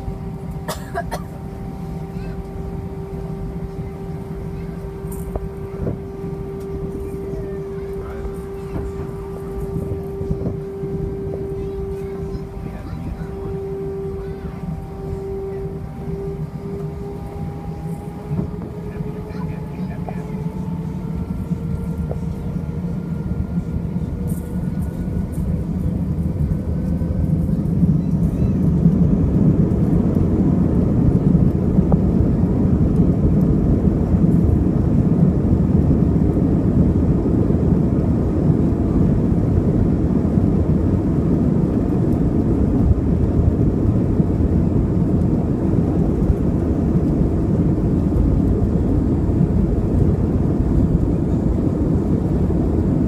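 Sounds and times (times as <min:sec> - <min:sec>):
jet engine whine: 0:00.0 - 0:53.0
jet engines roaring: 0:00.0 - 0:53.0.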